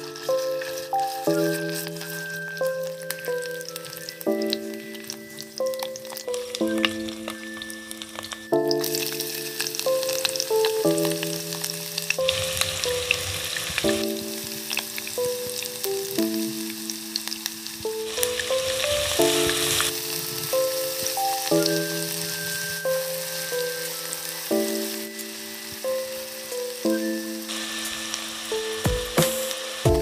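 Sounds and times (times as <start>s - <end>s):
background music of held notes: 0.0s - 30.0s
food sizzling in hot oil: 0.0s - 30.0s.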